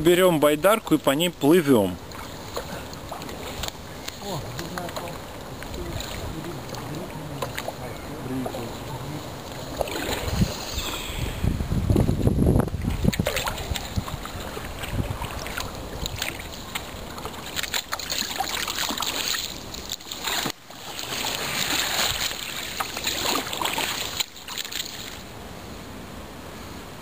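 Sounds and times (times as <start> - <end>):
paddle strokes splashing: 0.8 - 25.3.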